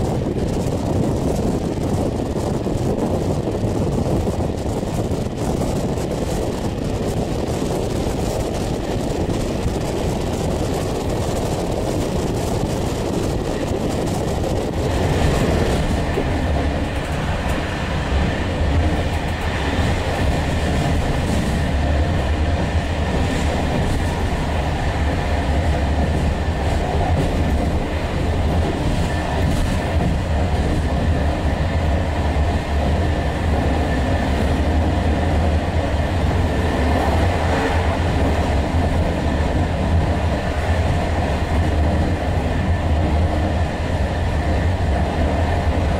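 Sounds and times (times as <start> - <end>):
deep train rumble: 0.0 - 45.9
rushing air at window: 0.0 - 45.9
train wheels on rails: 0.0 - 45.9.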